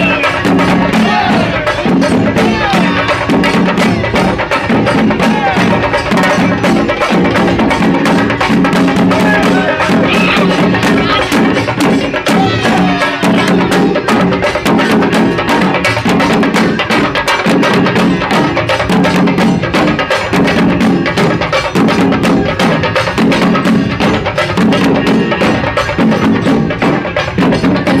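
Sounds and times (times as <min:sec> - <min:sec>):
drum band playing: 0:00.0 - 0:28.0.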